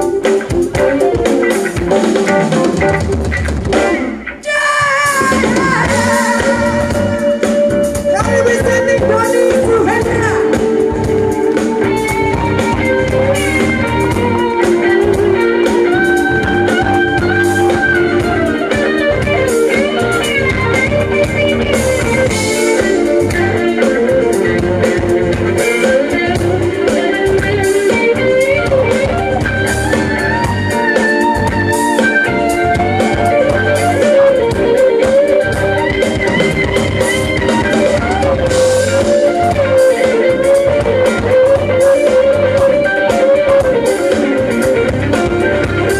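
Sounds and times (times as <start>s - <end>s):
drum kit: 0.0s - 45.9s
electric guitar solo: 0.0s - 45.9s.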